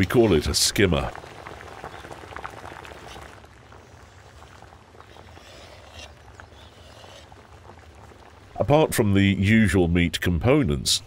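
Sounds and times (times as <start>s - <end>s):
water bubbling in metal pot: 0.0s - 8.9s.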